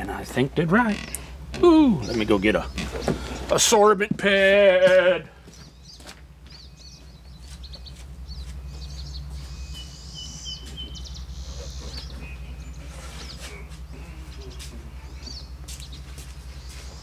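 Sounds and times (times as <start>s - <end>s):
small birds chirping: 0.0s - 4.1s, 5.3s - 17.0s
steady low hum: 0.0s - 17.0s.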